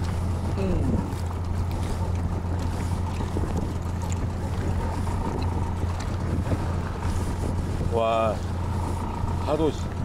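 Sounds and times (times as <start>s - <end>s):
outboard motor humming: 0.0s - 10.0s
wind noise on microphone: 0.0s - 10.0s.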